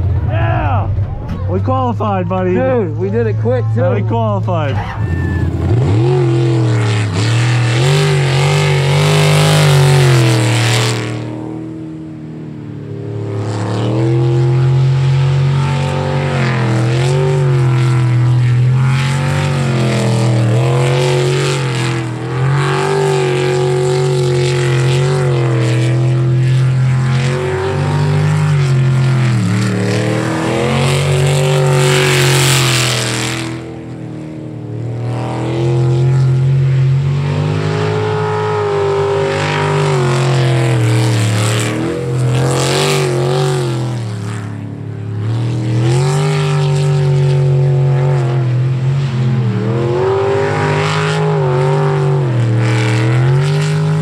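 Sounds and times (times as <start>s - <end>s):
boat engine running hard: 0.0s - 54.0s.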